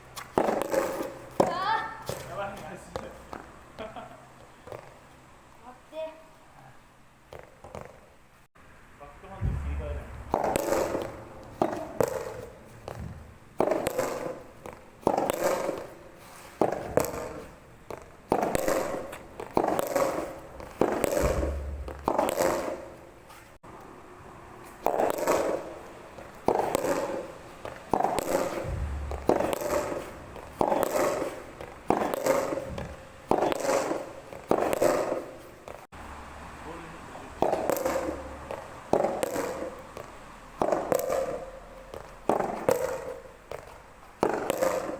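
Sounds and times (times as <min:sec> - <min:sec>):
rackets striking tennis balls: 0:00.1 - 0:05.0, 0:09.2 - 0:23.7, 0:24.6 - 0:35.9, 0:37.3 - 0:44.9
tennis balls bouncing on court: 0:00.1 - 0:05.2, 0:07.3 - 0:08.1, 0:09.3 - 0:23.4, 0:24.7 - 0:35.9, 0:37.3 - 0:44.9.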